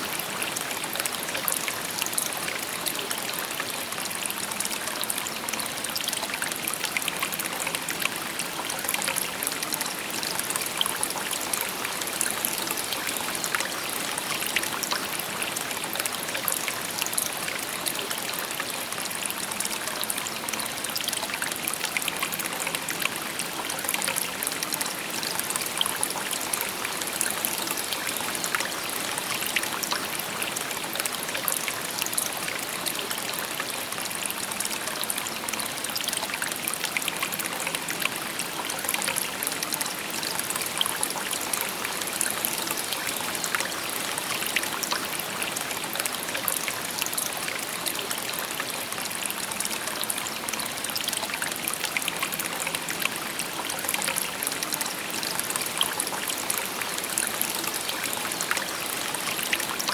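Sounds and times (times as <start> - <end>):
water trickles and splashes: 0.0 - 59.9.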